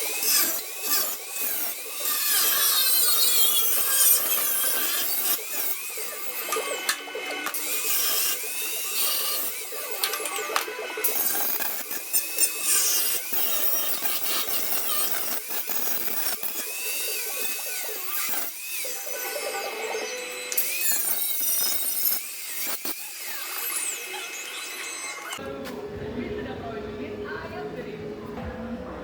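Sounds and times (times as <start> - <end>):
power tool whining on sheet steel: 0.0 - 25.4.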